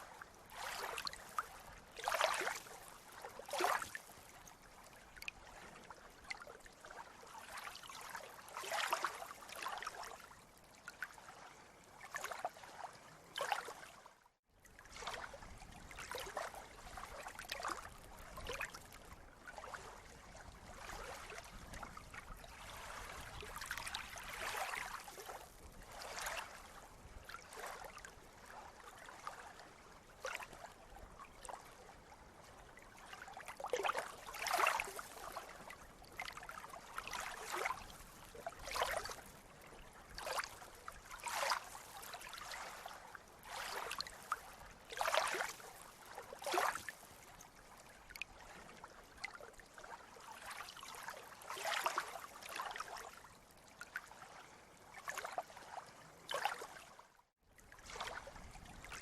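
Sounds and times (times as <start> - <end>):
sea water lapping and splashing: 0.0 - 59.0.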